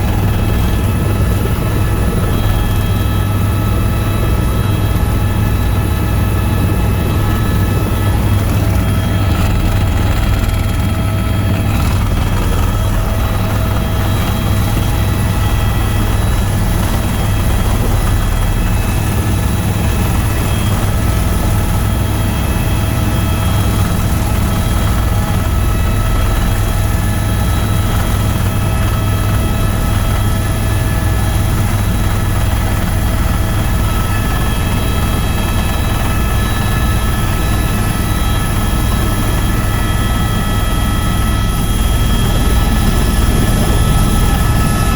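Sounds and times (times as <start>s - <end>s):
helicopter rotor drone: 0.0s - 44.9s
turbine whine: 0.0s - 44.9s.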